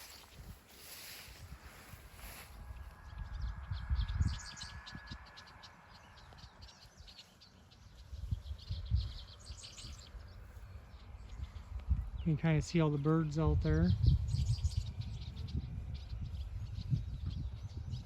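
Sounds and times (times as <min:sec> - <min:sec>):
swallows twittering: 0:00.0 - 0:18.0
wind buffeting microphone: 0:00.0 - 0:18.0.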